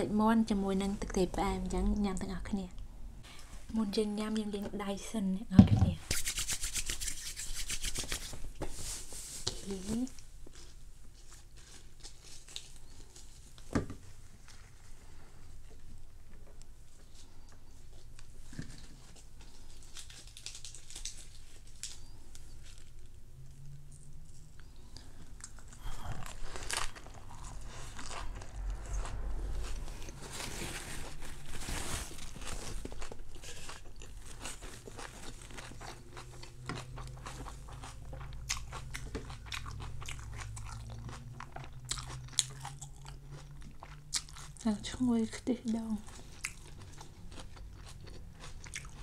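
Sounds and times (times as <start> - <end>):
crunching and chewing food: 9.5 - 49.0.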